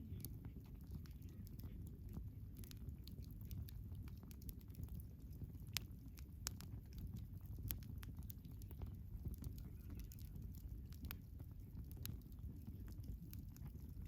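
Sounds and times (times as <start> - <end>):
campfire crackling: 0.0 - 14.0
fire pops: 0.0 - 14.0
low fire rumble: 0.0 - 14.0.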